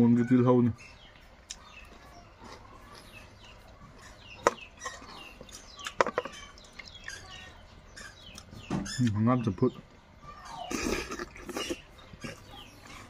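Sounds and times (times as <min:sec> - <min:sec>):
birds chirping in falling peeps: 0:00.0 - 0:13.0.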